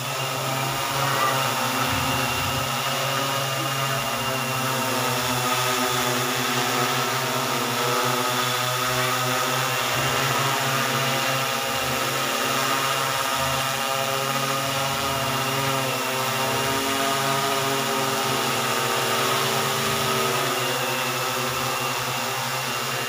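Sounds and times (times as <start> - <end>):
drone motors buzzing: 0.0 - 23.0.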